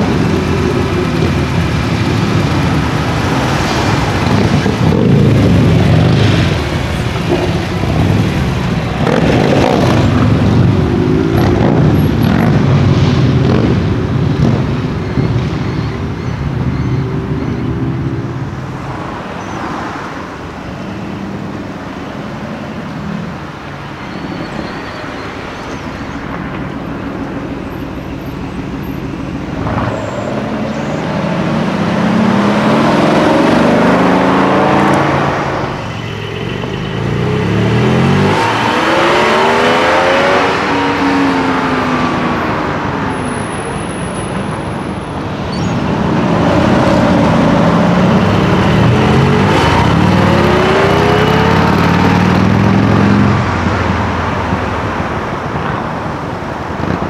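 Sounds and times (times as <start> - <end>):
sports car engines accelerating: 0.0 - 57.0
traffic noise: 0.0 - 57.0.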